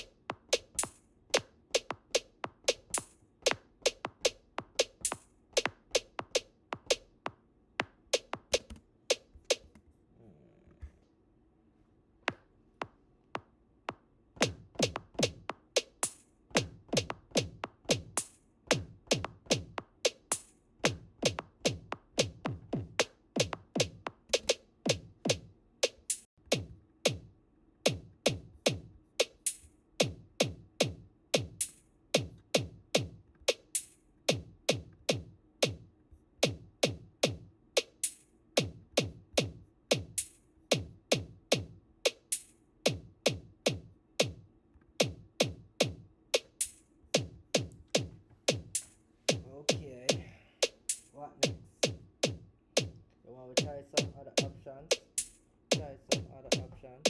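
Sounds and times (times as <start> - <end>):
electronic drum-machine beat: 0.0 - 9.6, 14.4 - 27.3, 27.9 - 53.0, 53.6 - 57.0
hi-hat and snare hits: 0.0 - 9.7, 14.4 - 53.0, 53.6 - 57.0.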